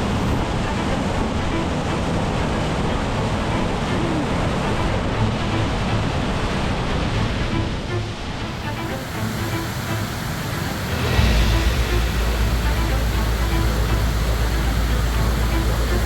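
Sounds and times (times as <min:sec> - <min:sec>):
background music: 0:00.0 - 0:16.0
waterfall roaring: 0:00.0 - 0:16.0.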